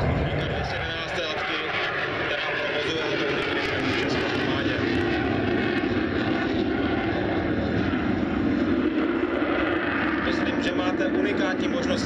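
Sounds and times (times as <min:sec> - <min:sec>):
jet flying overhead: 0:00.0 - 0:12.0.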